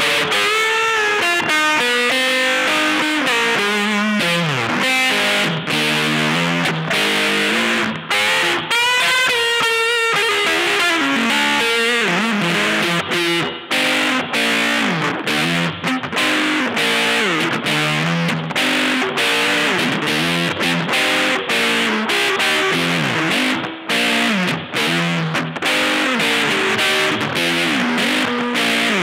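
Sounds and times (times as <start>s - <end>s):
electric guitar through effects pedals: 0.0s - 29.0s.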